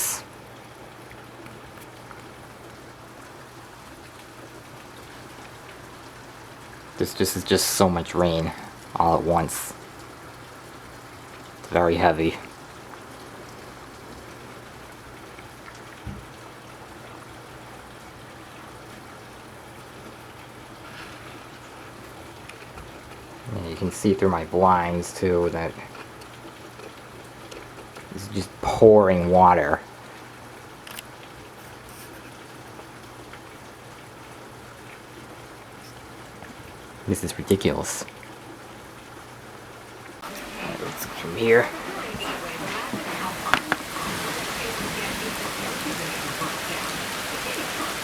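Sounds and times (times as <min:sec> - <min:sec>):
torrential rain pouring: 0:00.0 - 0:48.0
water spilling over gutters: 0:00.0 - 0:48.0.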